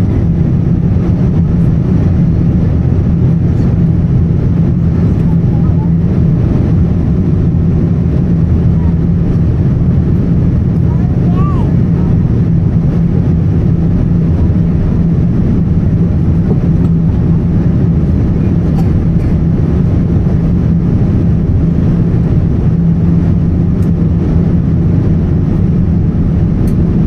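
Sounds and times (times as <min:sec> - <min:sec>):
constant low hum: 0:00.0 - 0:27.0
jet engine and airflow rush: 0:00.0 - 0:27.0.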